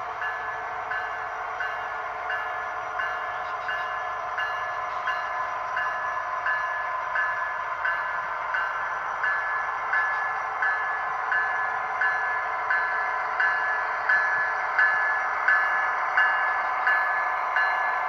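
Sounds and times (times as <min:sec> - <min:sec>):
model trains running on track: 0:00.0 - 0:18.0.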